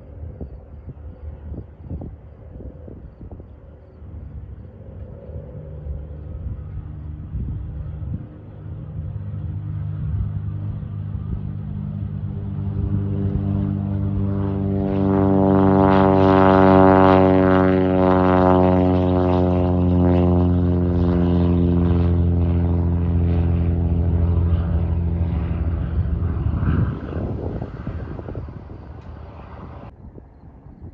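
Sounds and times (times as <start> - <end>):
propeller airplane engine: 0.0 - 30.6.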